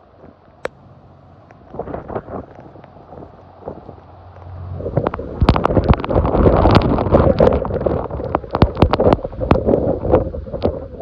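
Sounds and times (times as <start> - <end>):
driving rain: 0.0 - 11.0
hurricane wind: 0.0 - 11.0
wind buffeting microphone: 0.0 - 11.0.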